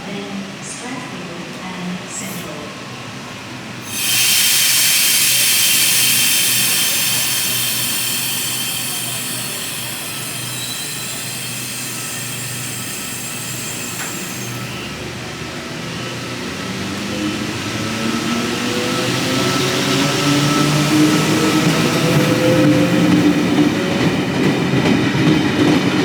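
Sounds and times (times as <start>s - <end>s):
train hissing and squealing: 2.1s - 2.6s, 3.8s - 25.2s.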